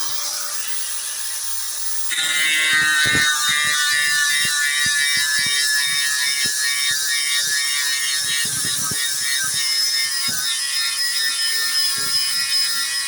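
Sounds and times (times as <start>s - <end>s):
angle grinder sanding paint: 0.0s - 13.0s.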